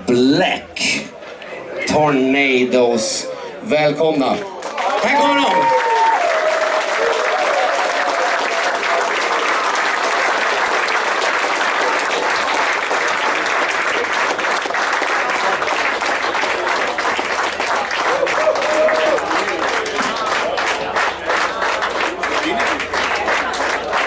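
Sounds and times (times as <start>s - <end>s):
audience applauding: 4.5s - 24.0s.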